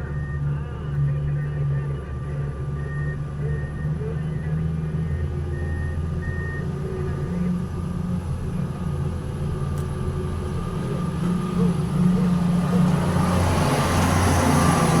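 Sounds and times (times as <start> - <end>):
heavy machinery engine drone: 0.0 - 15.0.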